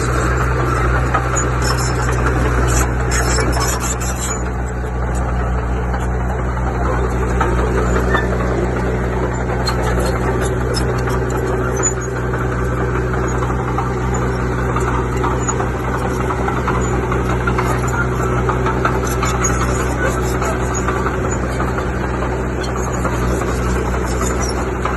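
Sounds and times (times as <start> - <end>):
diesel engine under load: 0.0 - 24.9
scraping and clicking tracks: 0.0 - 24.9.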